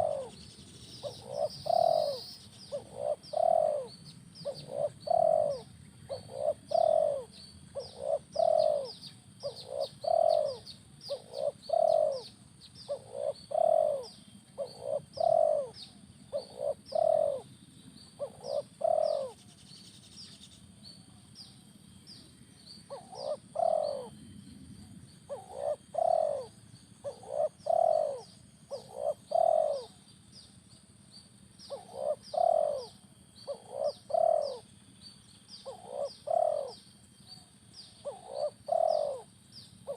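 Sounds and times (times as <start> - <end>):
dove cooing: 0.0 - 19.6, 22.9 - 30.5, 31.6 - 34.8, 35.6 - 39.9
small birds chirping: 0.0 - 39.9.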